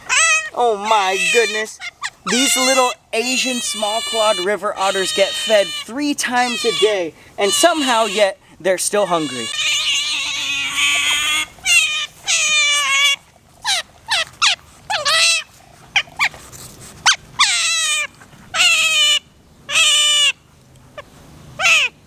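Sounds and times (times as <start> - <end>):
otters crying high-pitched: 0.0 - 8.4, 9.0 - 16.3, 17.0 - 20.4, 21.6 - 22.0.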